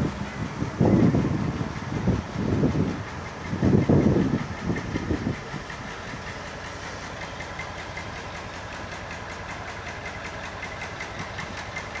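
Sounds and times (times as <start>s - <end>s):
diesel locomotive engine knocking: 0.0s - 12.0s.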